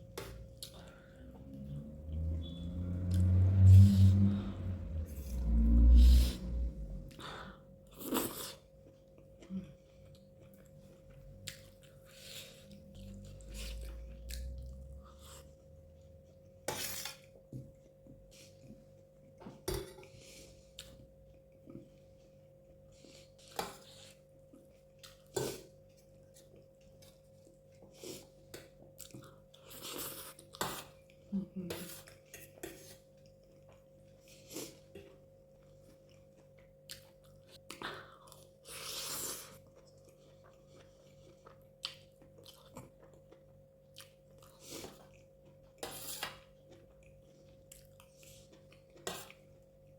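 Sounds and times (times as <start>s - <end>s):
soft chewing: 0.0s - 3.3s, 6.5s - 49.9s
faint steady hum: 0.0s - 49.9s.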